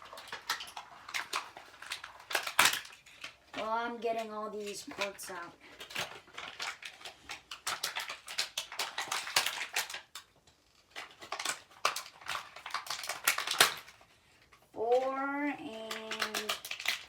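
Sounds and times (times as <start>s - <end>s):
plastic toy parts clicking: 0.0s - 17.0s.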